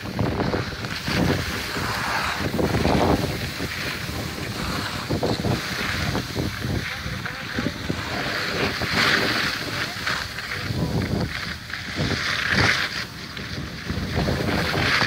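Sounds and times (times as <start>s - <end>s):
skis scraping on packed snow: 0.0s - 15.0s
wind buffeting microphone: 0.0s - 15.0s.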